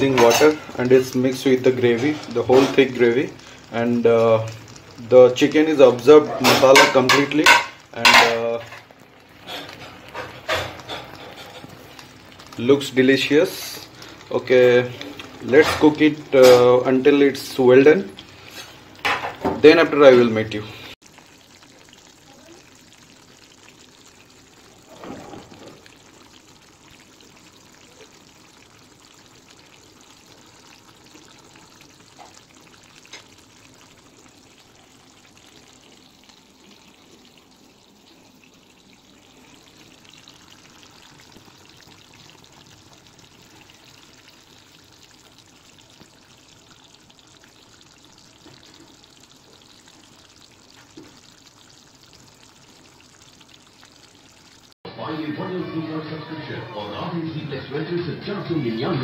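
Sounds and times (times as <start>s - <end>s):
curry bubbling and hissing: 0.0s - 54.8s.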